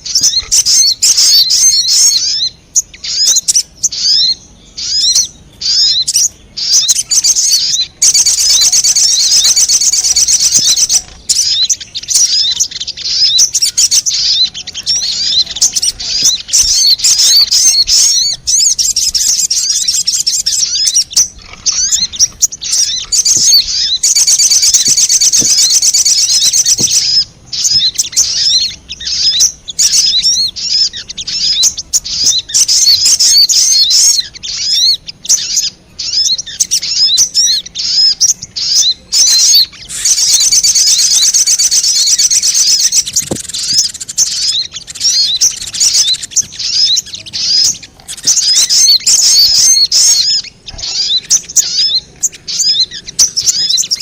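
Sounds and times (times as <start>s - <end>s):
bird chattering calls: 0.0s - 54.0s.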